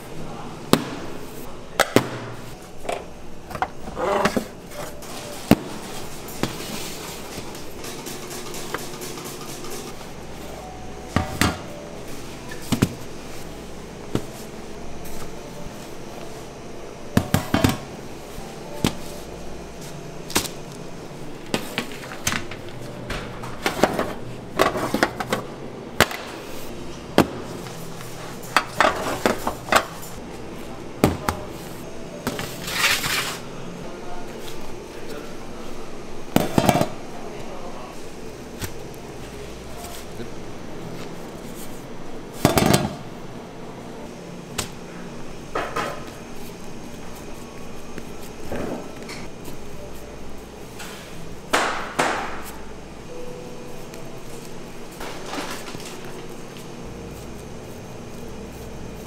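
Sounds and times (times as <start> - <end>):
steady low background hum: 0.0 - 59.0.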